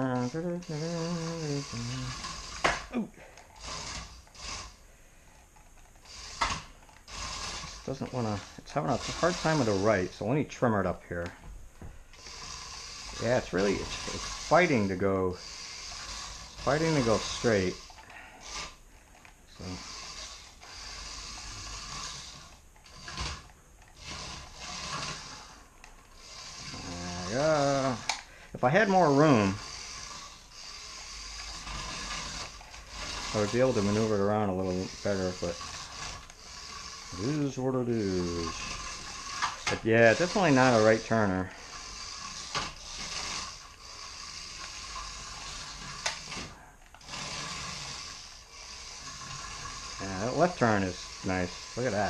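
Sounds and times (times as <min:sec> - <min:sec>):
toy car motor whirring: 0:00.0 - 0:11.4, 0:12.1 - 0:52.0.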